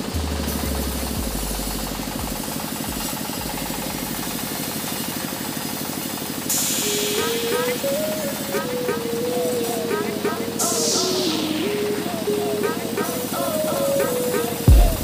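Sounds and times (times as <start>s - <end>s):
engine running steadily: 0.0s - 13.1s.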